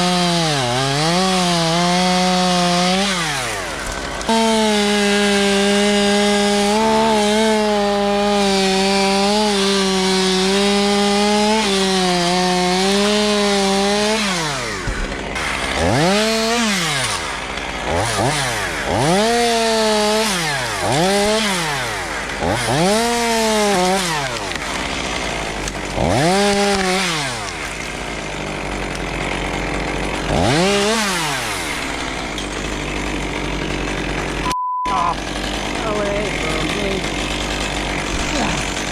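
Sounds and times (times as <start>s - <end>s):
chainsaw running and revving: 0.0s - 38.9s.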